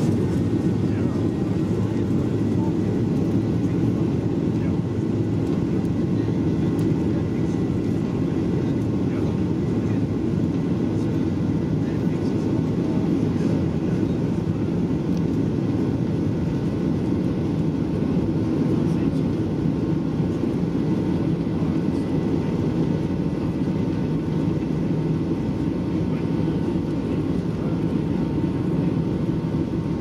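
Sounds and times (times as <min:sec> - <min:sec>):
jet engines and wheels rumbling: 0:00.0 - 0:30.0.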